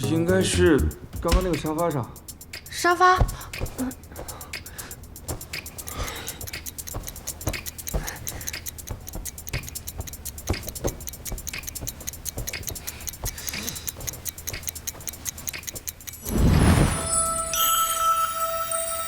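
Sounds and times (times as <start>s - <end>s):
ticking background music: 0.0s - 19.0s.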